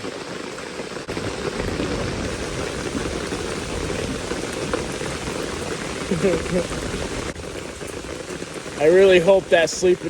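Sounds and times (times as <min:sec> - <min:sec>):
heavy rain on a tarp: 0:00.0 - 0:10.0.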